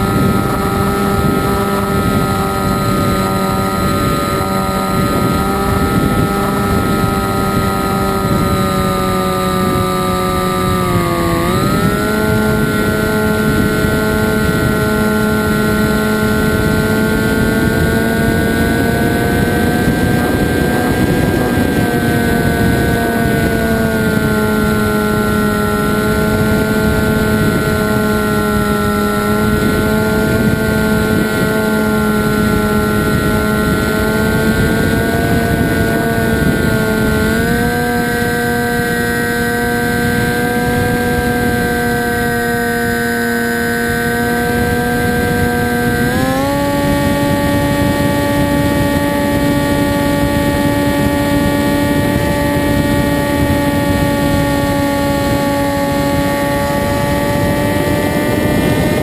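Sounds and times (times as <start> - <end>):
motor and propeller droning hum: 0.0 - 59.0
wind rushing: 0.0 - 59.0.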